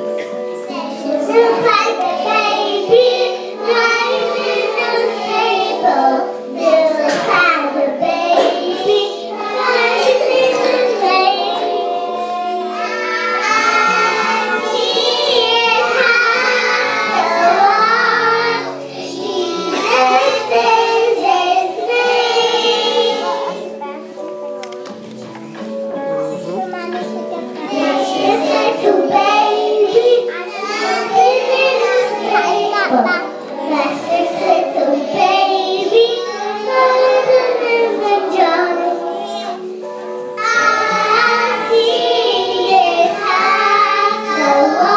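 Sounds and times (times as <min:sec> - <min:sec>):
children singing into microphone: 0:00.0 - 0:44.9
instrumental accompaniment: 0:00.0 - 0:44.9.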